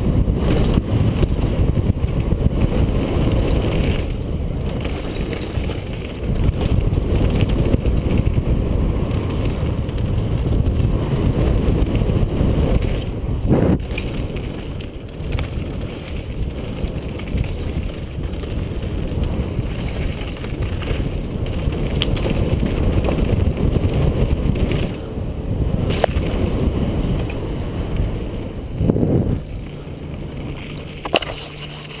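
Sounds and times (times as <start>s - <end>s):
bike rattling: 0.0s - 32.0s
tyres rolling over gravel: 0.0s - 32.0s
wind buffeting microphone: 0.0s - 32.0s.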